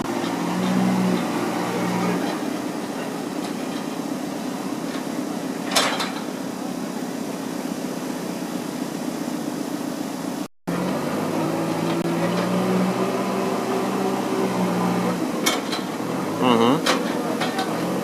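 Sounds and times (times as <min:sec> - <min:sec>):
diesel engine running: 0:00.0 - 0:05.7, 0:06.3 - 0:18.0.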